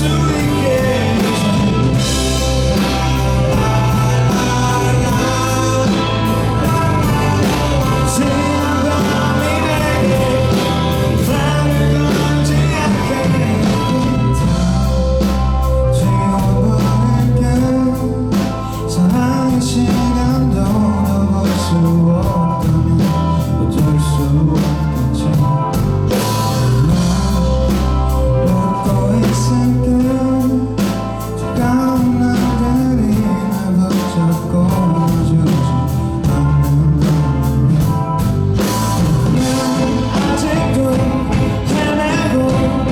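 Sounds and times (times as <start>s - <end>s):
live rock band: 0.0s - 42.9s
man singing: 0.0s - 42.9s.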